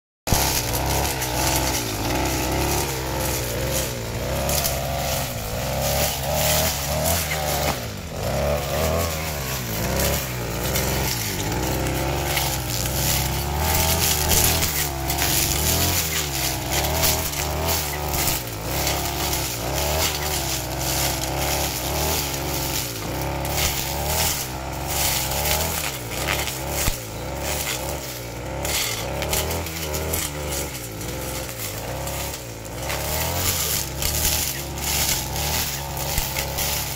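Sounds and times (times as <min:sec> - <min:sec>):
brush cutter engine running: 0:00.3 - 0:36.9
rough snoring engine sound: 0:00.3 - 0:36.9.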